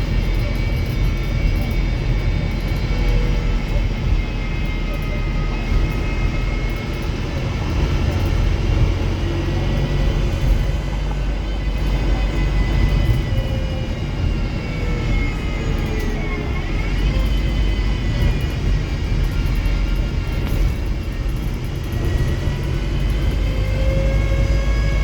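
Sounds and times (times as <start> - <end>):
bus engine rumbling: 0.0 - 25.0
high drivetrain whines: 0.0 - 25.0.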